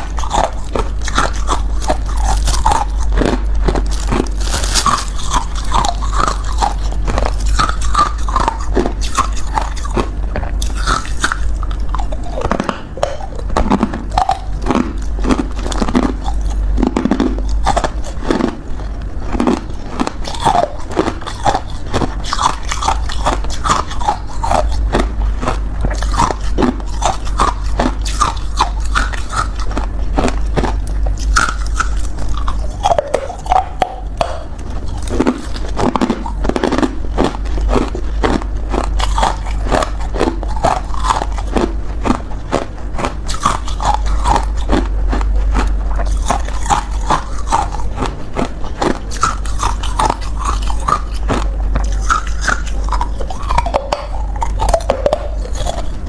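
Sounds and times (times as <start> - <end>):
person crunching ice: 0.0 - 18.6, 19.2 - 56.0
steady low hum: 0.0 - 56.0.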